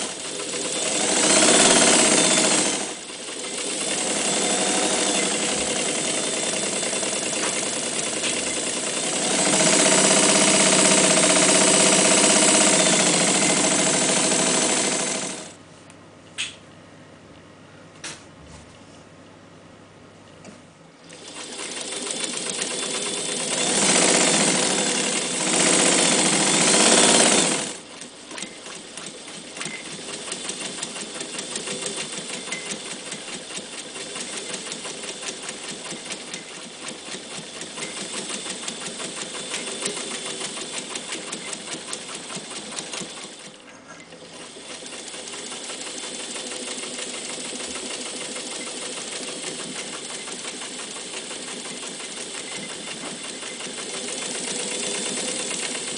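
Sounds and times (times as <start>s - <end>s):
electric sewing machine stitching: 0.0s - 15.6s, 21.0s - 55.9s.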